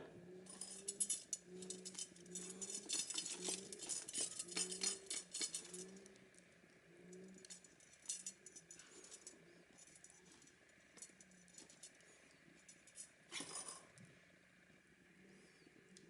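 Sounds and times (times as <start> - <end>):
light ticks and clinks: 0.4 - 6.5, 7.1 - 14.1.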